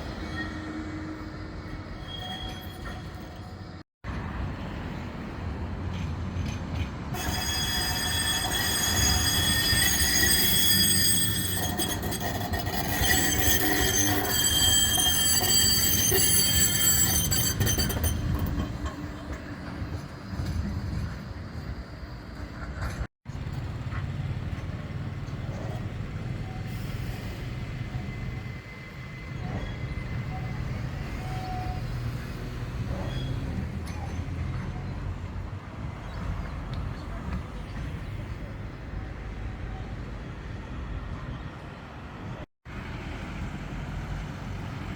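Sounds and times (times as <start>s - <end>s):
tram wheels squealing: 0.0s - 3.8s, 5.9s - 42.4s
tram rumbling on rails: 0.0s - 44.9s.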